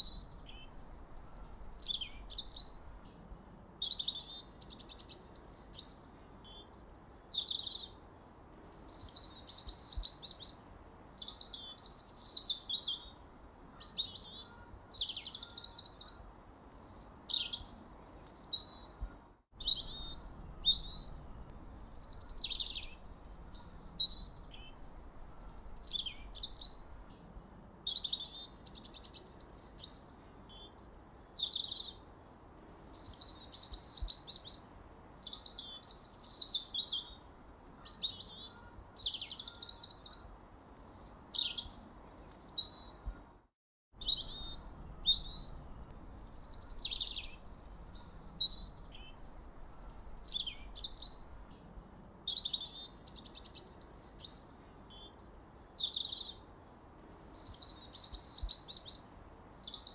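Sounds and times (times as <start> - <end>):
faint steady hiss: 0.0 - 43.3, 44.0 - 59.9
songbirds singing and chirping: 0.0 - 43.4, 44.0 - 59.9.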